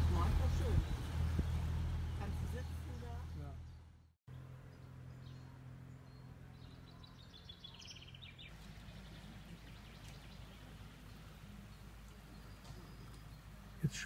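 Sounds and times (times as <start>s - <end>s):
bird twittering trill: 0.5s - 13.9s.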